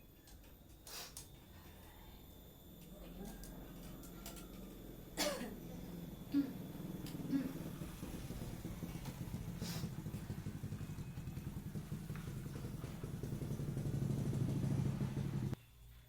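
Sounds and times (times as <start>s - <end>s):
small engine running: 1.4s - 15.6s.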